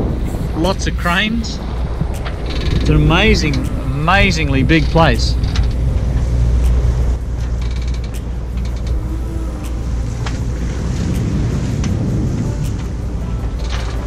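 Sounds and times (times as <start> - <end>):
boat engine rumbling: 0.0 - 14.0
wind noise: 0.0 - 14.0
boat fittings creaking: 0.1 - 14.0.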